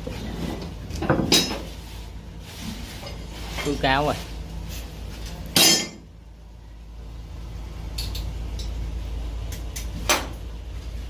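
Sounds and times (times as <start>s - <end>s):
engine room machinery hum: 0.0s - 11.0s.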